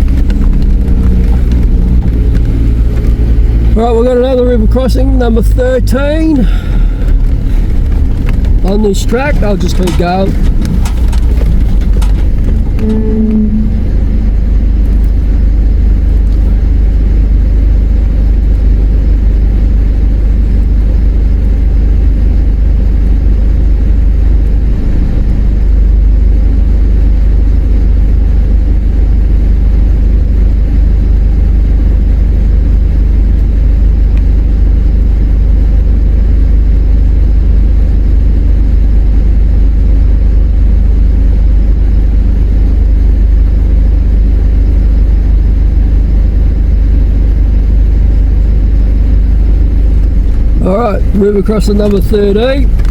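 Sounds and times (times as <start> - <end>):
vehicle engine and tyres rumbling: 0.0 - 52.9.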